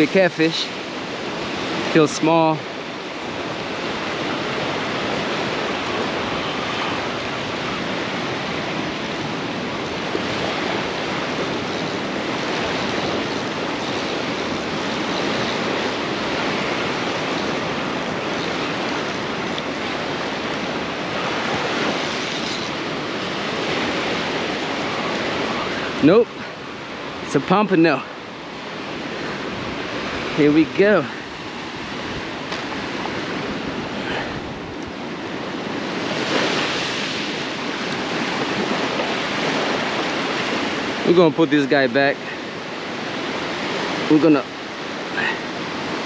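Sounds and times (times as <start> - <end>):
ocean surf washing: 0.0 - 46.0.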